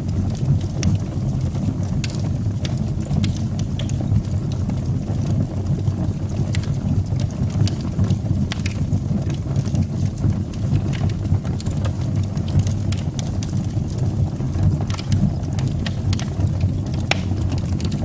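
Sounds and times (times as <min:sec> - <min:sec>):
fire crackling in a fireplace: 0:00.0 - 0:18.0.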